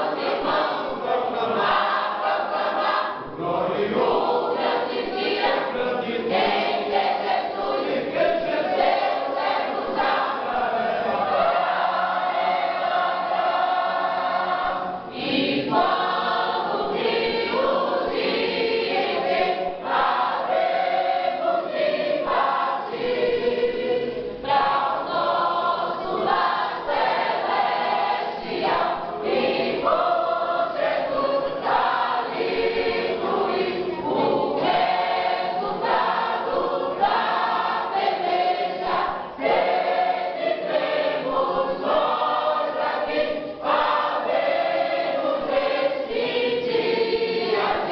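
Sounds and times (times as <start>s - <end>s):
church choir singing a hymn: 0.0s - 47.9s.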